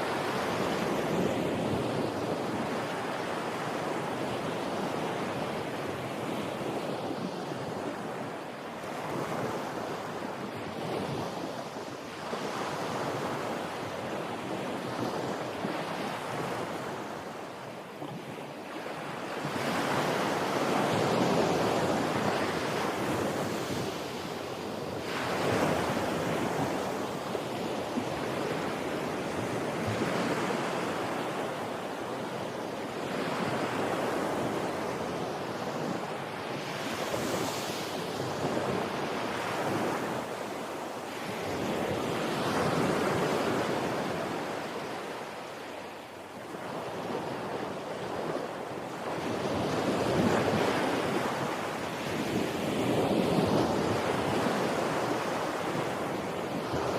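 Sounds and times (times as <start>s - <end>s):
ocean surf washing on shore: 0.0s - 56.9s.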